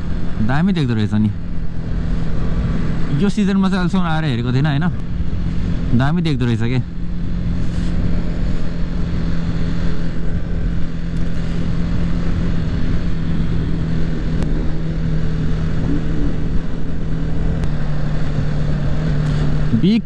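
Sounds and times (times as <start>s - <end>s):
motorcycle engine running steadily: 0.0s - 20.0s
road and wind noise: 0.0s - 20.0s.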